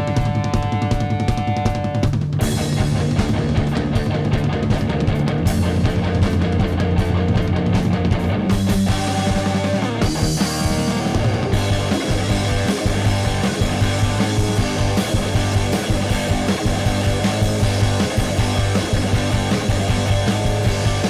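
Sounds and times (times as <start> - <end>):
distorted electric guitar: 0.0 - 21.0
rock band playing live: 0.0 - 21.0.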